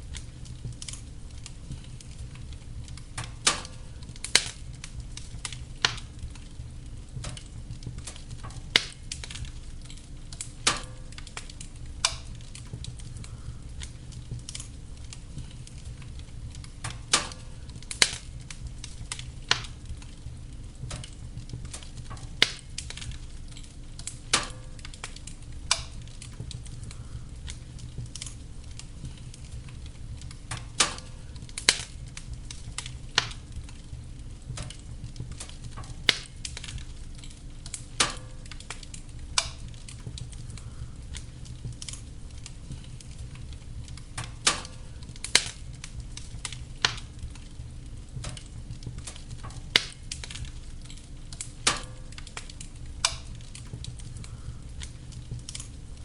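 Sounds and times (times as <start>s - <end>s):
fire crackles and pops: 0.0s - 56.0s
wood fire rumbling: 0.0s - 56.0s.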